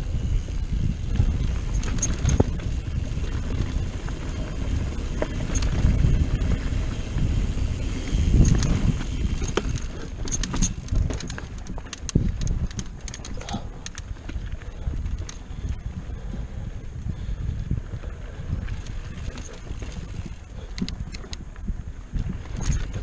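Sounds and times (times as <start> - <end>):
bike clicks and rattles: 0.0 - 23.0
bike tyres rumbling on dirt: 0.0 - 23.0.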